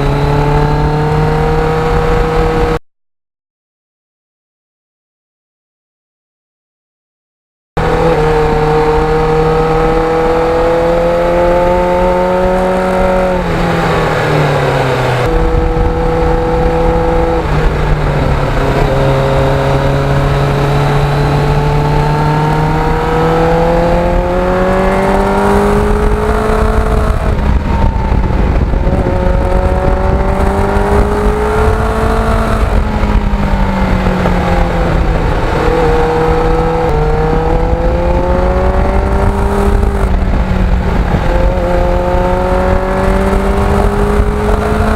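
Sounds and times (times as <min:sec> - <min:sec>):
wind noise rushing: 0:00.0 - 0:02.8, 0:07.8 - 0:44.9
motorcycle engine running: 0:07.8 - 0:44.9.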